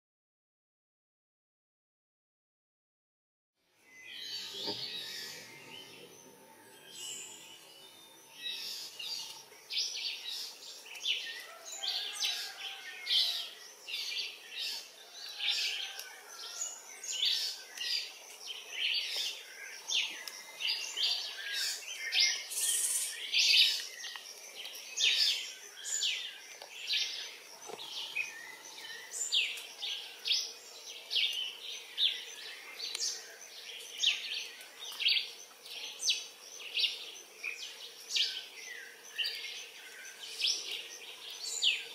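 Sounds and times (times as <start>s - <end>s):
birds chirping: 3.8s - 41.9s.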